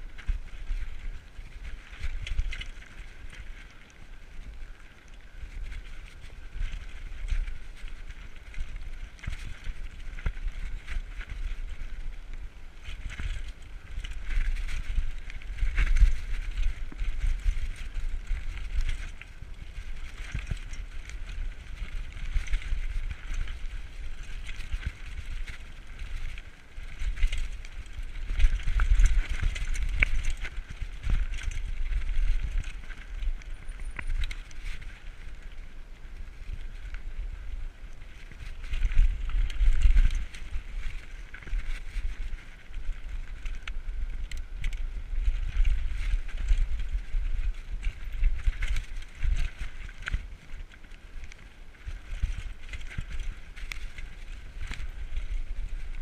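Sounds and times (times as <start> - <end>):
bike rattling and clicking: 0.0 - 56.0
bike tyres crunching on gravel: 0.0 - 56.0
wind buffeting microphone: 0.0 - 56.0.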